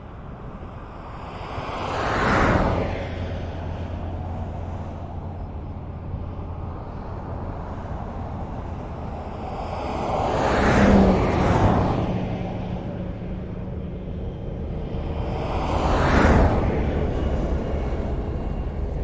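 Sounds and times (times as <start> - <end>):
traffic rumble: 0.0 - 19.0
vehicle passing by: 1.4 - 19.0.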